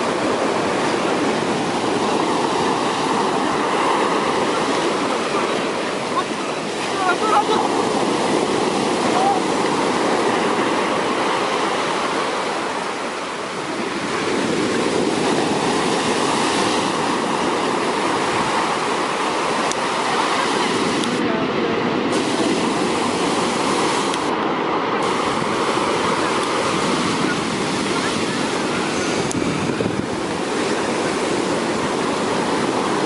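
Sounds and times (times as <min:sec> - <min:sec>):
heavy surf waves breaking: 0:00.0 - 0:33.0.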